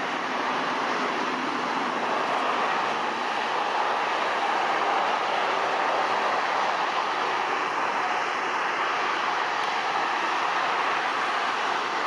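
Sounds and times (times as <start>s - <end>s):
motorway traffic roar: 0.0s - 12.0s.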